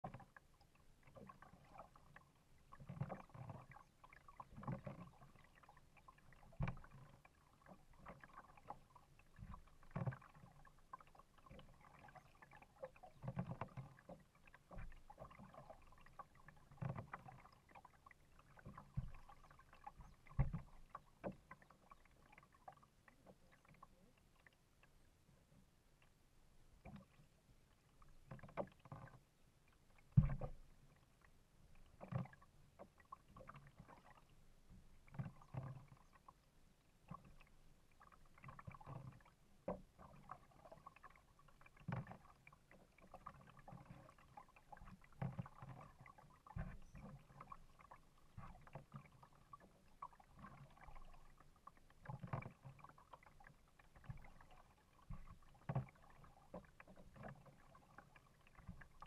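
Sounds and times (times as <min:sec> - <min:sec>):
paddle splashing water: 0:00.0 - 0:59.0.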